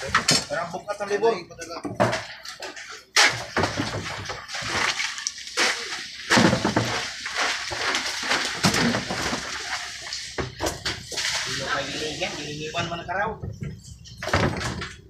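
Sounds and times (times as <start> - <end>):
plastic tubs knocking and scraping: 0.0 - 0.8, 1.6 - 15.0.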